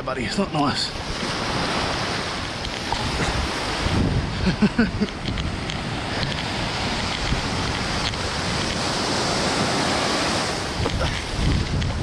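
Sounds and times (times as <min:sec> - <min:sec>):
surf breaking on beach: 0:00.0 - 0:12.0
wind on microphone: 0:00.6 - 0:12.0.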